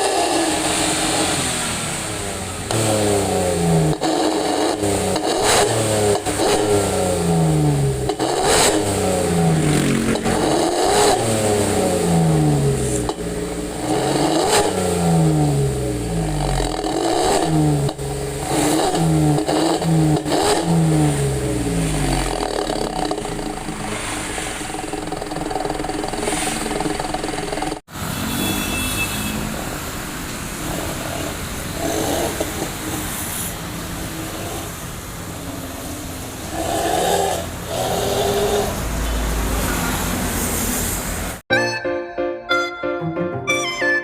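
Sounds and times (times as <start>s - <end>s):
exhaust cracks: 0.0s - 27.9s, 29.6s - 39.7s
car engine revving: 0.0s - 41.4s.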